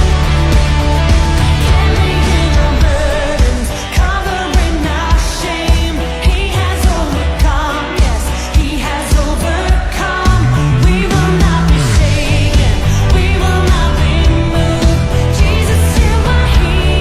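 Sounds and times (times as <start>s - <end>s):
pop song with sung melody: 0.0s - 17.0s.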